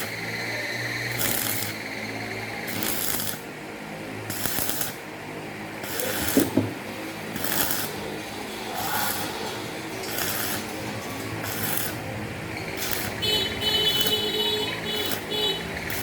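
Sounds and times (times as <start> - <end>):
rhythmic rasping strokes: 0.0 - 16.0
steady low hum: 0.0 - 16.0.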